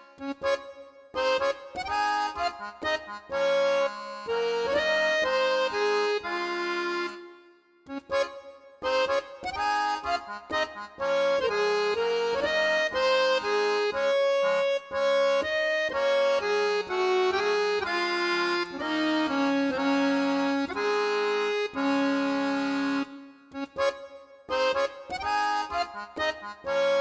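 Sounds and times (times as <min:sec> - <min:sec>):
instrumental background music: 0:00.0 - 0:27.0.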